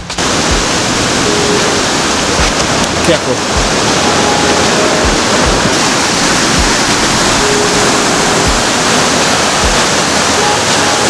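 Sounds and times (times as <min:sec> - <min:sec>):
low thumps: 0:00.0 - 0:11.0
waterfall rushing: 0:00.0 - 0:11.0.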